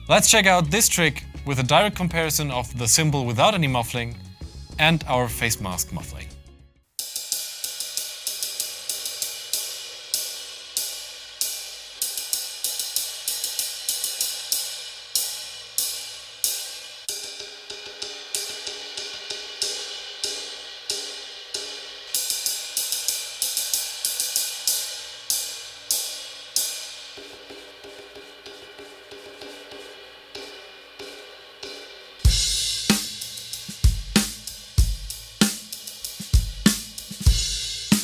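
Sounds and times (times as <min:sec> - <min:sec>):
drumstick playing cymbal: 0:07.0 - 0:38.0.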